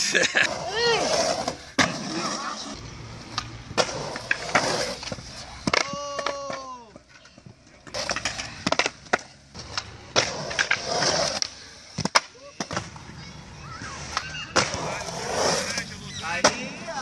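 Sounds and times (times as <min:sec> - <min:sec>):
skateboard wheels rolling on concrete: 0:00.0 - 0:17.0
skateboard clacking: 0:00.6 - 0:17.0.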